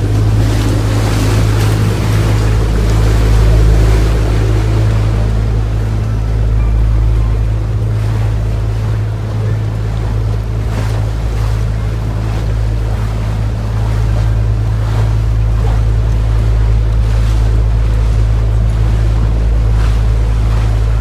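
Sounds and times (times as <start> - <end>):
boat motor humming: 0.0 - 21.0
water noise: 0.0 - 21.0.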